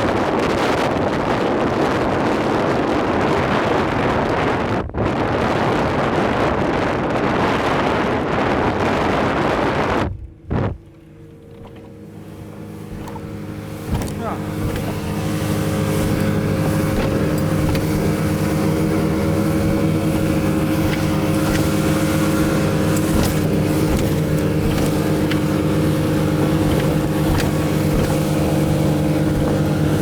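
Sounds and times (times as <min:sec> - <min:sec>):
outboard motors running: 0:00.0 - 0:30.0.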